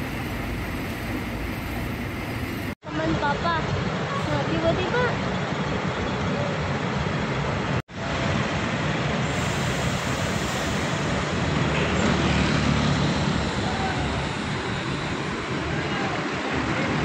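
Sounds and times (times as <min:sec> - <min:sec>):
bus terminal noise: 0:00.0 - 0:17.0
diesel bus engine rumbling: 0:00.0 - 0:17.0.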